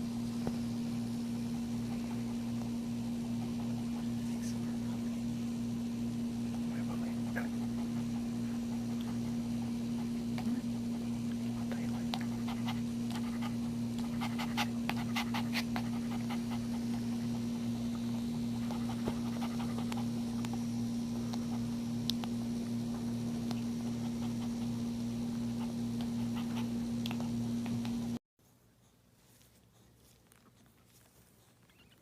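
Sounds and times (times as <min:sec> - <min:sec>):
low electrical hum: 0:00.0 - 0:32.0
dog panting: 0:01.7 - 0:05.2, 0:06.4 - 0:21.8, 0:22.9 - 0:32.0.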